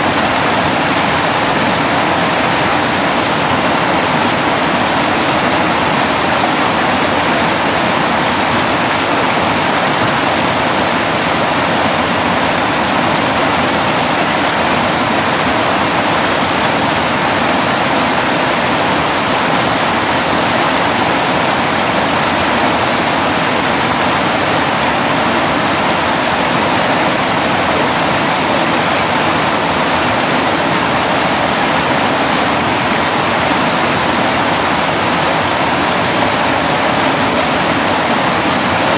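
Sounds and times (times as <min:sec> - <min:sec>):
creek rushing over boulders: 0:00.0 - 0:38.9.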